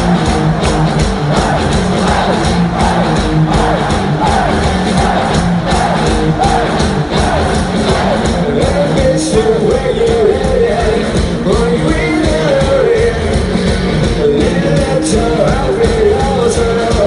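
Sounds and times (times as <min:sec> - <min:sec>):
crowd noise: 0:00.0 - 0:17.0
rock band playing: 0:00.0 - 0:17.0
person singing: 0:01.4 - 0:13.5, 0:14.1 - 0:17.0.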